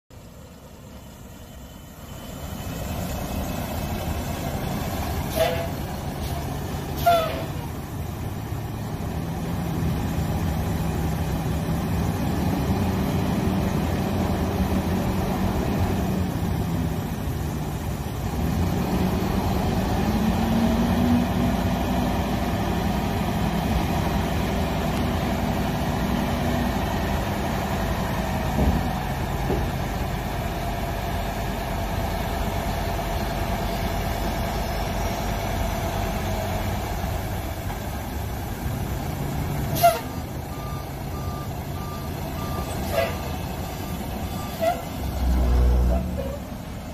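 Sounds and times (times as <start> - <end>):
diesel truck engine running: 0.1 - 46.9.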